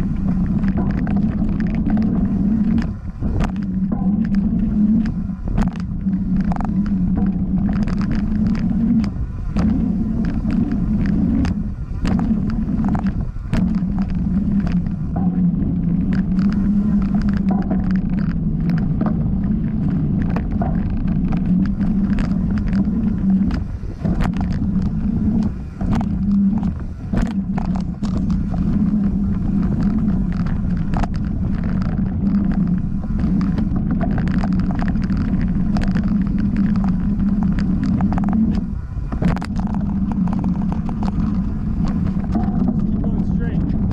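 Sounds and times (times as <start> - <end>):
bike clicks and rattles: 0.0 - 43.9
knobby tyres on dirt: 0.0 - 43.9
wind rumble: 0.0 - 43.9.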